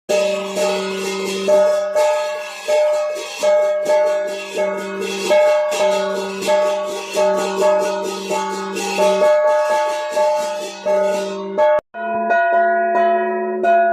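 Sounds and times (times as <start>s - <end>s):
plucked string instrument melody: 0.1s - 13.9s.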